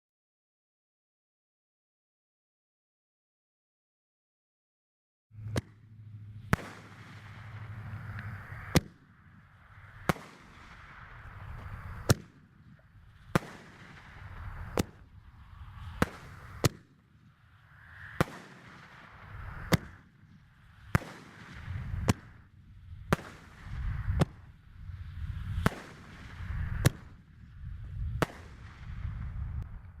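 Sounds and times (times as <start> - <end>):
firework launch hiss and rumble: 5.4 - 30.0.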